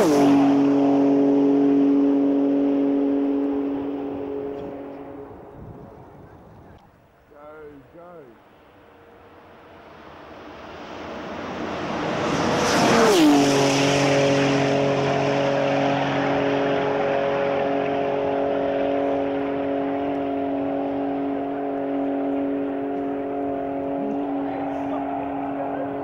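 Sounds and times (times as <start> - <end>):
sports car passing at speed: 0.0 - 6.4, 8.4 - 26.0.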